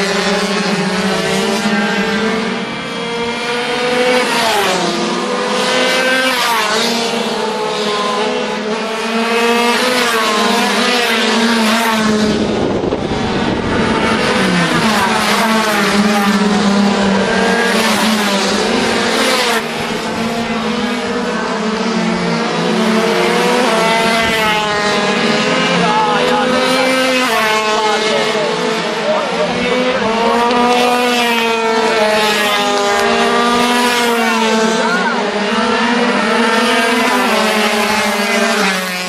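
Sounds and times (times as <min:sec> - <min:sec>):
two-stroke racing motorcycles revving: 0:00.0 - 0:39.0.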